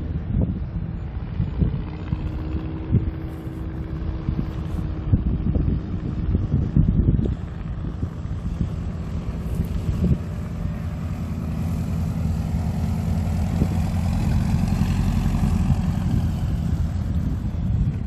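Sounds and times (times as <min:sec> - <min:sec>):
propeller plane engine: 0:00.0 - 0:18.0.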